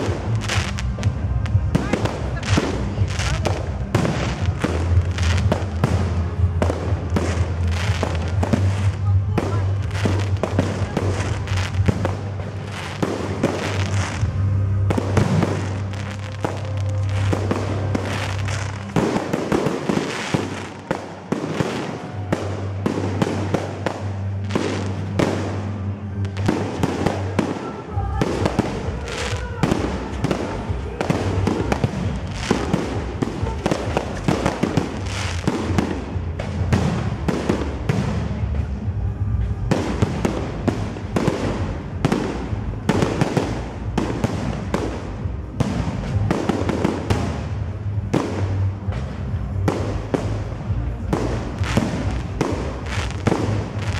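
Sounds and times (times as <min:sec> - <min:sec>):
fireworks bursting: 0:00.0 - 0:53.9
music playing: 0:00.0 - 0:53.9.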